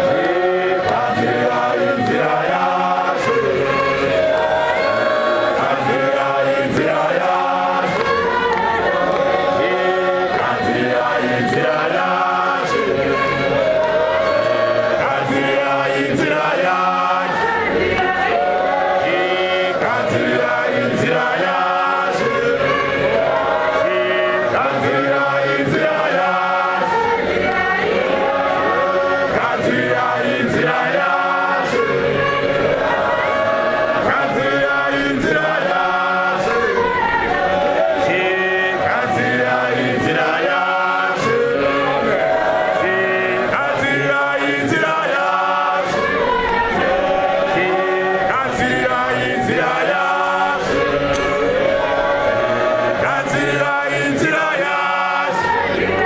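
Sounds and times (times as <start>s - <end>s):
men singing a church chorus: 0.0s - 56.0s.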